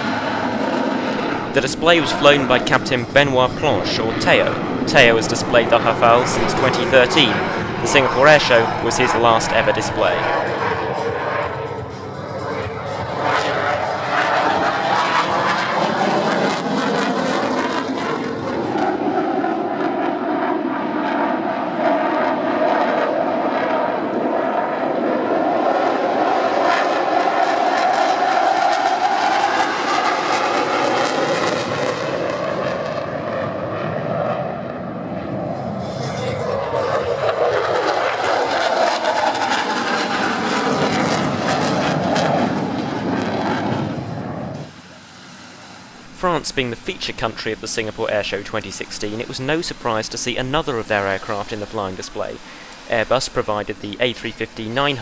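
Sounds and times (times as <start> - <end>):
jet engines flying by: 0.0 - 55.0.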